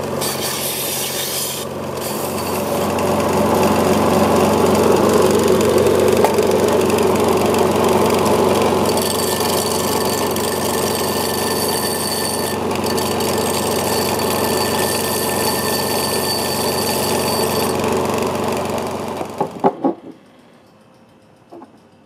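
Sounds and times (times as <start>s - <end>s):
belt sander grinding glass: 0.0s - 19.2s.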